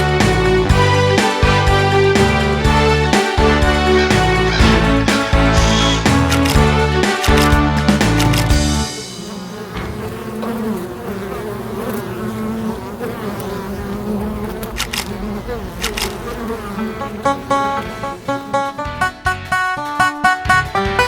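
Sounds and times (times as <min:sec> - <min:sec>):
insect buzzing: 0:01.6 - 0:19.2.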